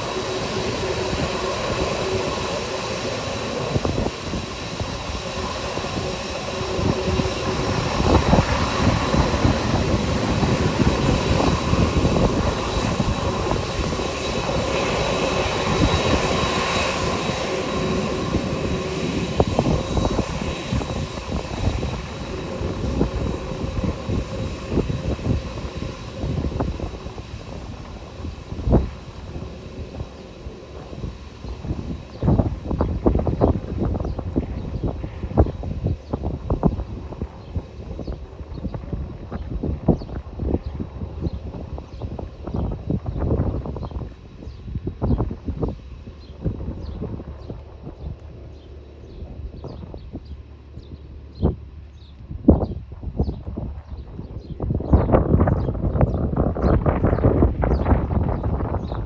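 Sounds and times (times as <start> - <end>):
jet engines whining: 0.0 - 59.0
wind gusts on microphone: 0.0 - 59.0.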